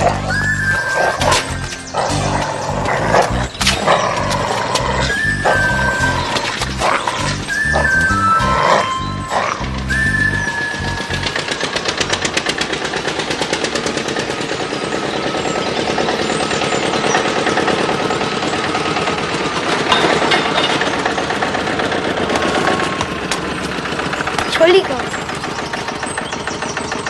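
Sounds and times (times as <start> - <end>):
old tractor engine chugging: 0.0 - 27.0.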